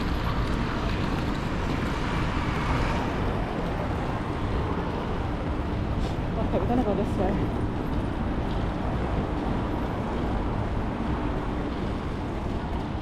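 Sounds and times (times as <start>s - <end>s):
urban background rumble: 0.0s - 13.0s.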